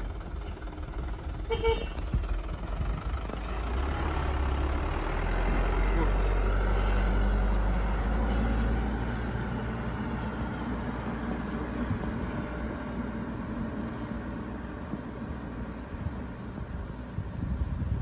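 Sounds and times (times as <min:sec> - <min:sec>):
truck engine driving past: 0:00.0 - 0:18.0.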